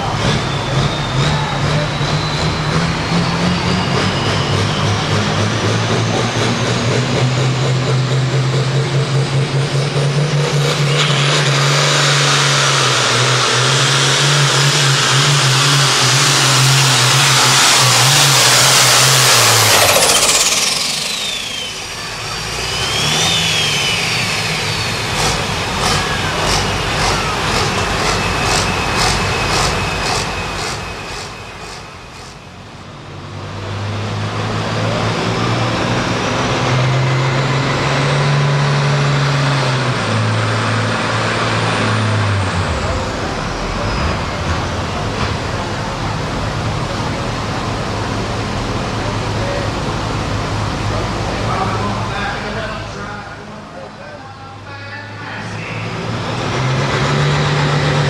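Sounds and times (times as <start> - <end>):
diesel tractor engine at full power: 0.0 - 58.0
high turbo whine: 0.0 - 58.0.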